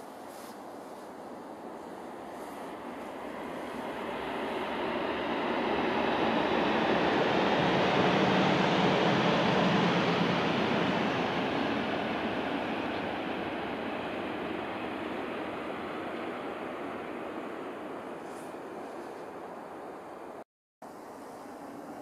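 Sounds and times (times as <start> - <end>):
high-speed train passing: 0.0 - 20.4.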